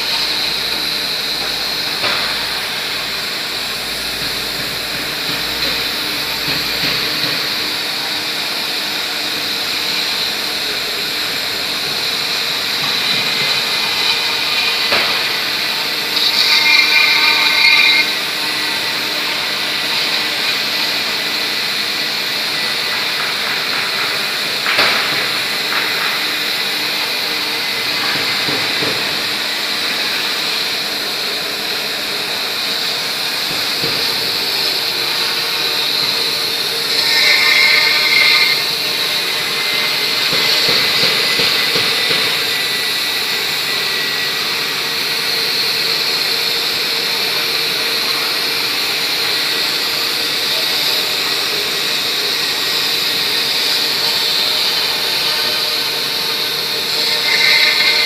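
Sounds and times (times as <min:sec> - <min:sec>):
router spindle whine and cutting hiss: 0:00.0 - 0:58.0.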